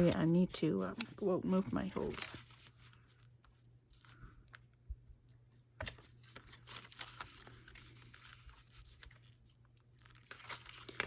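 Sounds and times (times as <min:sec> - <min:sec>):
paper and card rustling: 0:00.0 - 0:04.7, 0:05.3 - 0:11.0.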